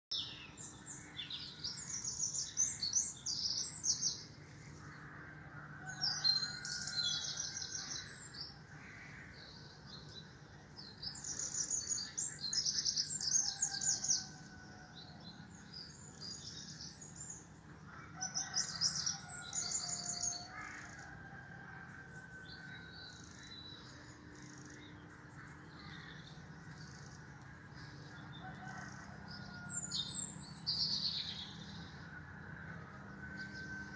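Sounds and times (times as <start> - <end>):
songbirds chirping rapidly: 0.1 - 33.9
low bird calls: 0.8 - 33.9.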